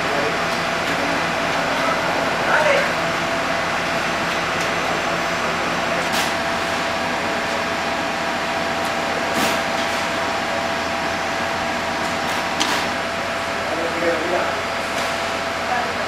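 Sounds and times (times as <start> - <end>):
fire engine idling drone: 0.0 - 16.0.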